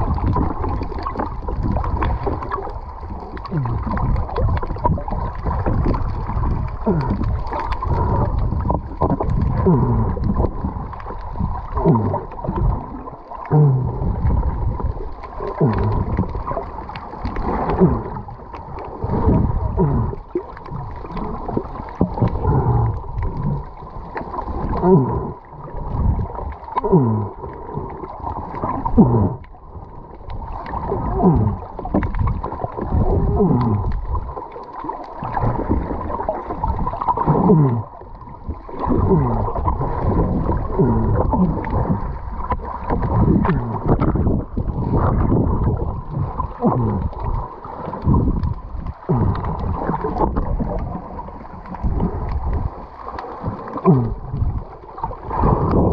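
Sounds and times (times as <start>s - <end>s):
muffled underwater wash: 0.0s - 55.9s.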